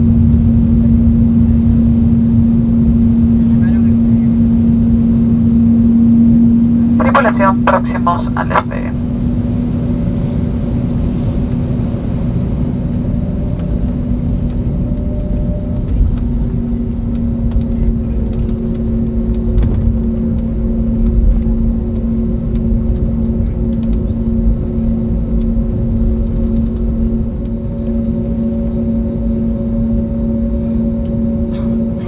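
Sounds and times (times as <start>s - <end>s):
aircraft engine rumble: 0.0s - 32.0s.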